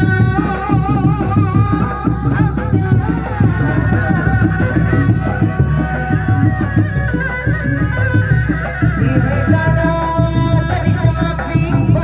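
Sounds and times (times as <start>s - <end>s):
fast steady drumming: 0.0s - 12.0s
held melody line: 0.0s - 12.0s.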